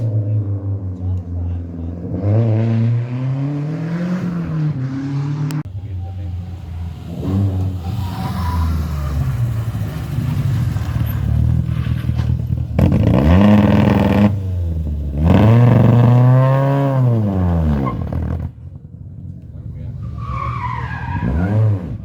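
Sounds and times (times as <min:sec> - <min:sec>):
car passing at high revs: 0:00.0 - 0:18.6
rally car engines revving: 0:00.0 - 0:22.0.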